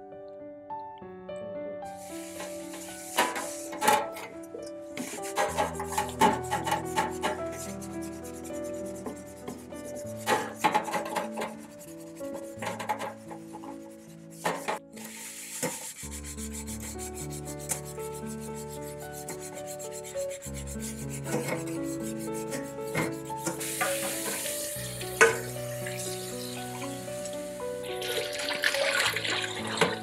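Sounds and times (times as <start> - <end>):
soft background music: 0.0 - 30.0
sponge scouring steel pot: 2.0 - 30.0.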